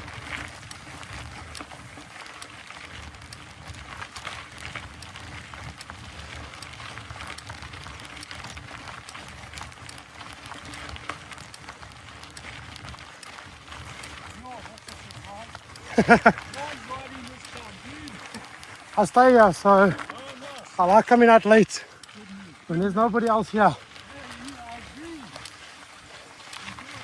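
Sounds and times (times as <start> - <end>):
bike tyres crunching over gravel: 0.0 - 27.0
small clicks and rattles: 0.0 - 27.0.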